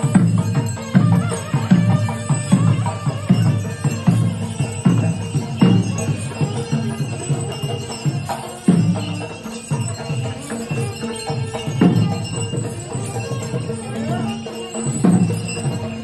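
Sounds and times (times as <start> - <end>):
jingling bells: 0.0 - 16.0.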